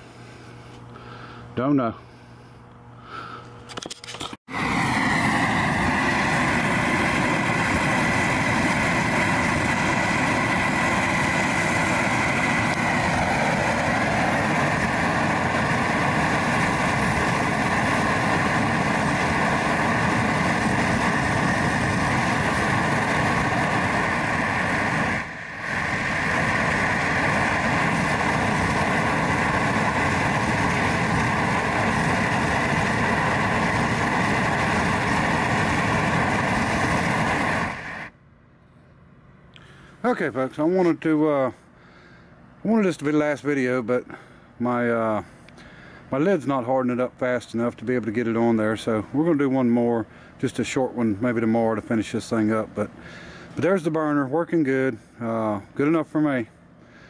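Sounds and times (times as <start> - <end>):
gas burner flame roaring: 0.0 - 38.2, 39.6 - 57.0.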